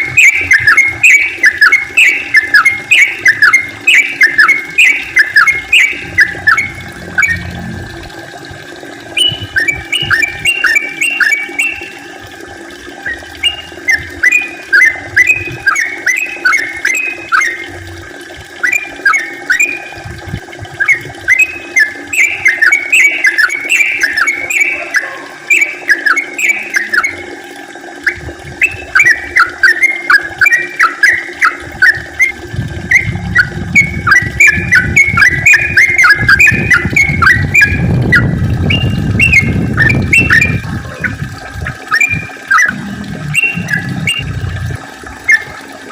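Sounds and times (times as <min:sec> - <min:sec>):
bulbul bubbly whistled song: 0:00.0 - 0:45.9.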